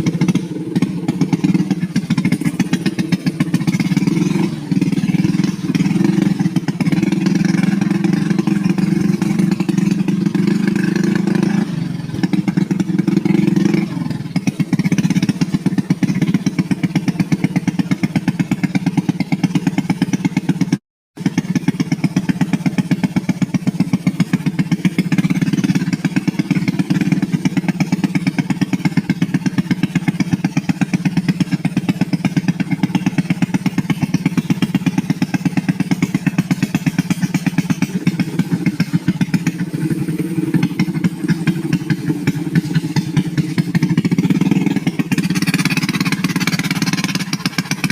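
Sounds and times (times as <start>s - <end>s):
small motorcycle engine running: 0.0s - 47.9s.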